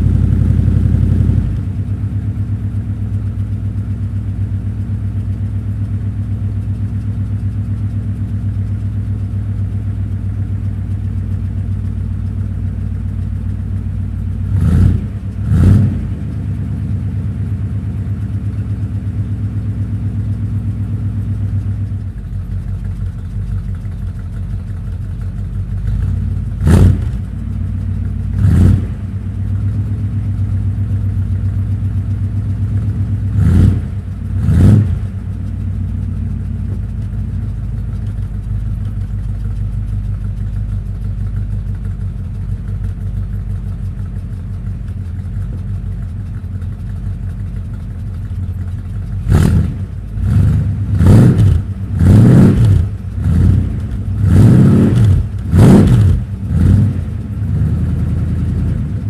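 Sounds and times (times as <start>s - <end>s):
car engine idling: 0.0s - 59.0s
engine throttle blips: 0.0s - 59.0s.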